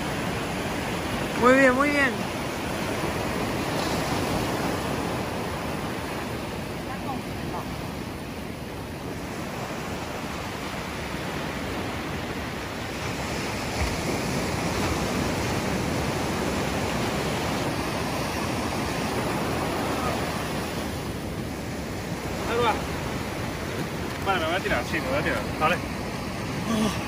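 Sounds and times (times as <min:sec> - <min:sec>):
waves breaking on a beach: 0:00.0 - 0:27.0.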